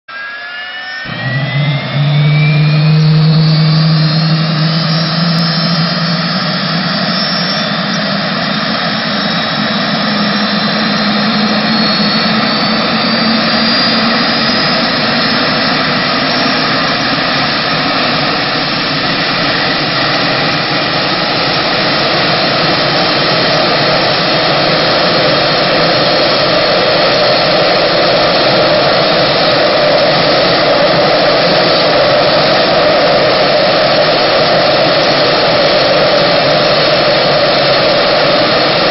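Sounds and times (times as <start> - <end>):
gas turbine whine spooling up: 0.1 - 38.9.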